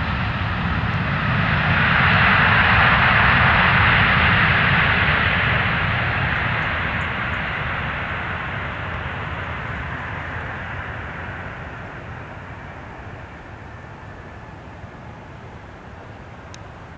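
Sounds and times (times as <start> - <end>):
jet engines rushing: 0.0 - 16.9.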